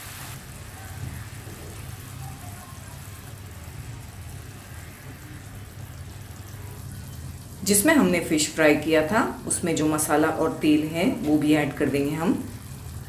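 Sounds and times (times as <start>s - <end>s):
gravy bubbling in a frying pan: 0.0s - 13.0s.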